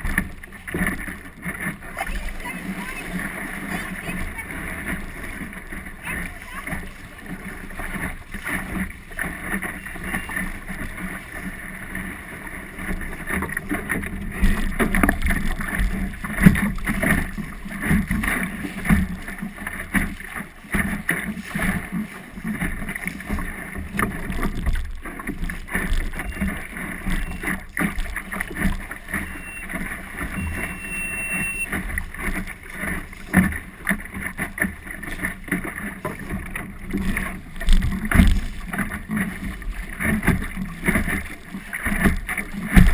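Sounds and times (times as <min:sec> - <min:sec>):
water splashing against boat hull: 0:00.0 - 0:42.9.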